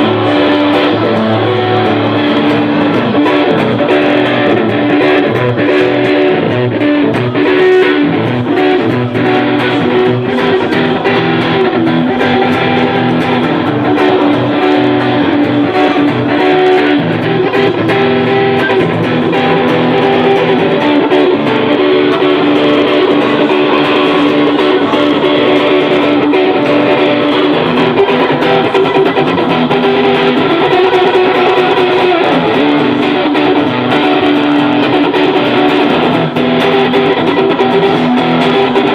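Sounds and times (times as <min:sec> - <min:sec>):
electric guitar: 0:00.0 - 0:38.9
live band playing instrumental: 0:00.0 - 0:38.9.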